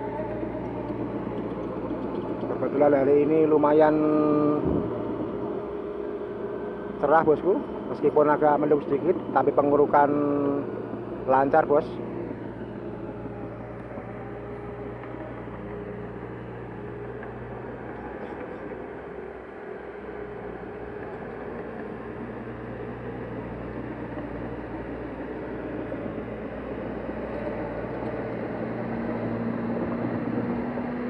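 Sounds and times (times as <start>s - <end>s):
diesel construction machinery running: 0.0s - 31.0s.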